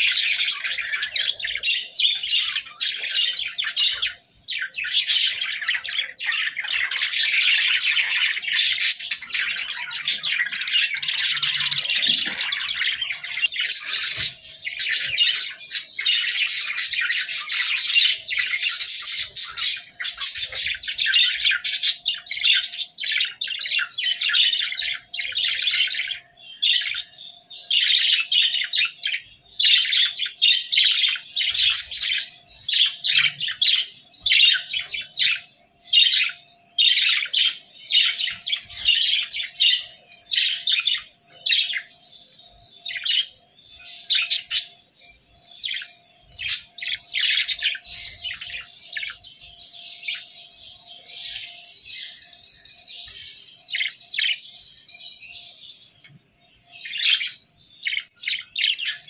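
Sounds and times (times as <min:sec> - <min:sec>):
budgerigars chattering and squawking: 0:00.0 - 0:56.1, 0:56.7 - 0:59.0.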